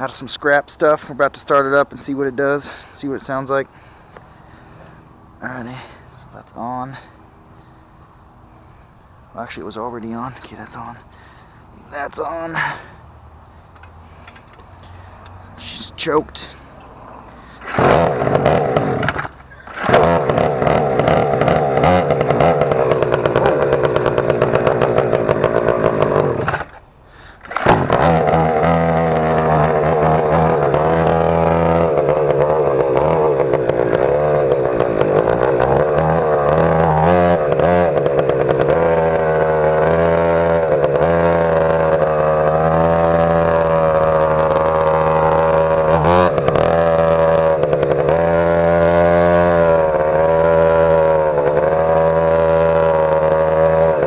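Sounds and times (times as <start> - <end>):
small engine starting and idling: 10.2 - 54.0.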